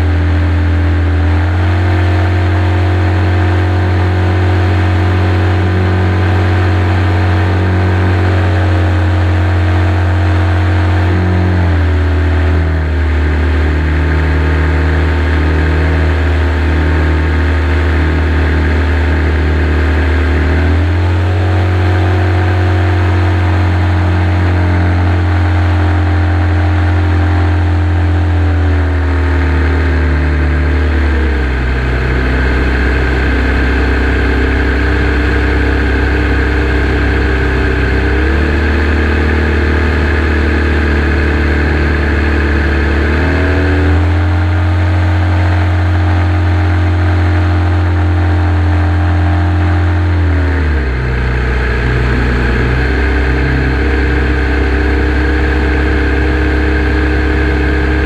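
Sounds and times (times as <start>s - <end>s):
radial engine running: 0.0s - 58.0s.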